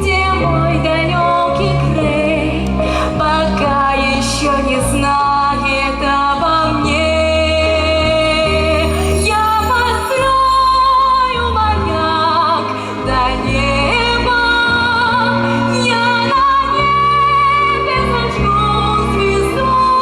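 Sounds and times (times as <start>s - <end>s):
bass accompaniment: 0.0s - 20.0s
woman singing with vibrato: 0.0s - 20.0s.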